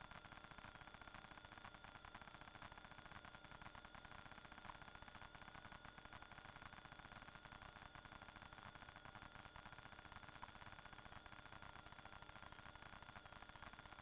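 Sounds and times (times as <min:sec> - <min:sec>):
faint hiss and crackle: 0:00.0 - 0:14.0
thin steady whines: 0:00.0 - 0:14.0.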